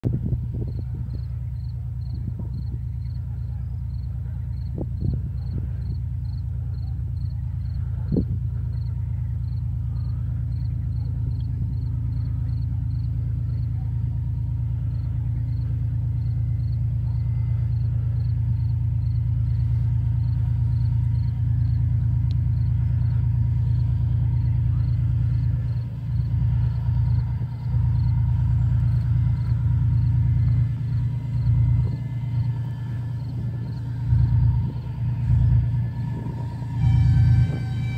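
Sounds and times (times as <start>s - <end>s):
diesel locomotive engine rumble: 0.0s - 37.9s.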